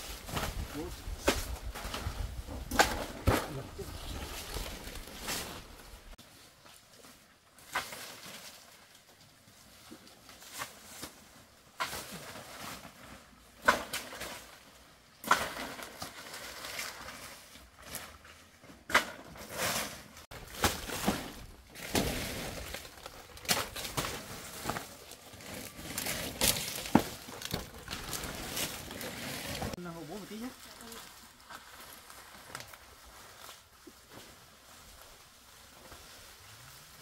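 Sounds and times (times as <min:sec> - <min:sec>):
brush rustling: 0:00.0 - 0:14.7, 0:15.4 - 0:37.0.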